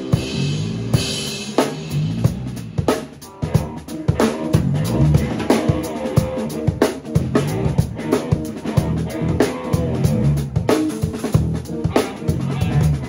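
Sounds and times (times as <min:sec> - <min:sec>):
drum kit groove: 0:00.0 - 0:13.0
electric bass line: 0:00.0 - 0:13.0
funk band jamming: 0:00.0 - 0:13.0.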